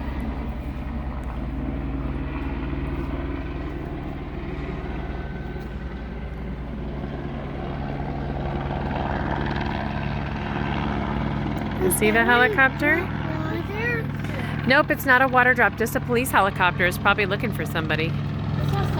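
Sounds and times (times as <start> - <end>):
helicopter rotor drone: 0.0 - 18.9.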